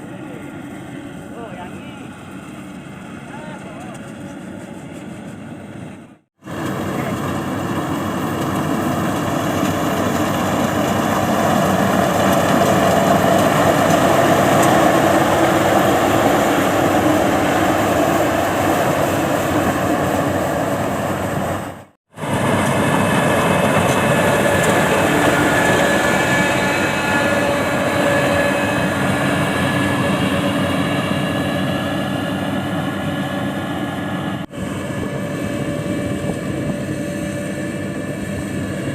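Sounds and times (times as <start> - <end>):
farm machinery engine running: 0.0 - 38.9.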